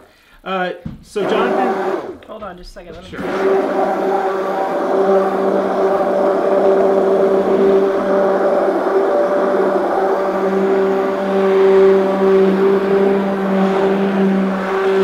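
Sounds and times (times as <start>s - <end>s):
stick blender motor humming: 0.8s - 15.0s.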